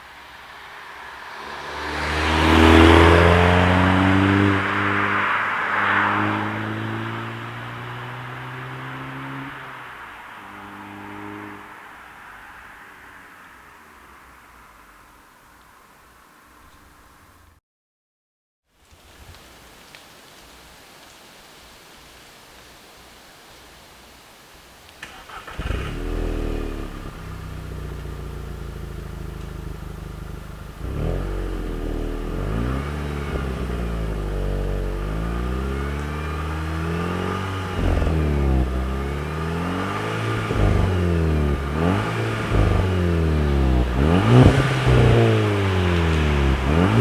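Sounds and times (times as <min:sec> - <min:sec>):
car engine starting and revving: 0:00.0 - 0:15.7, 0:25.0 - 0:47.0.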